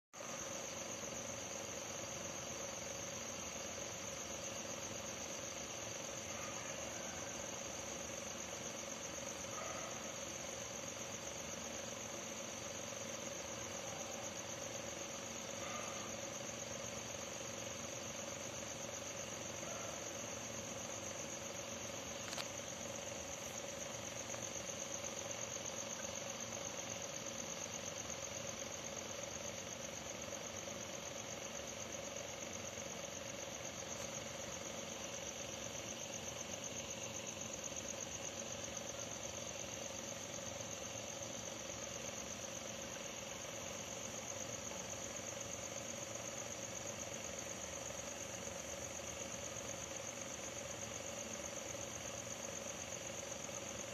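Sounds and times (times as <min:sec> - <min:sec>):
crickets chirping: 0:00.2 - 0:53.9.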